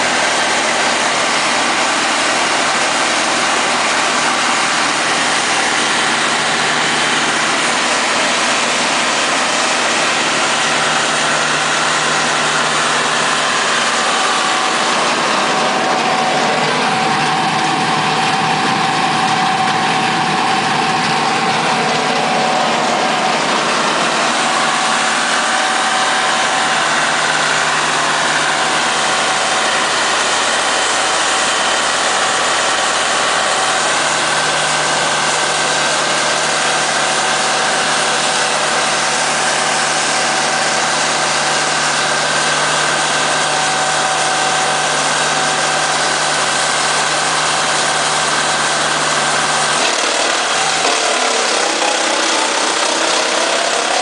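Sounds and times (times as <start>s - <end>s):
wood chipper diesel engine: 0.0s - 54.0s.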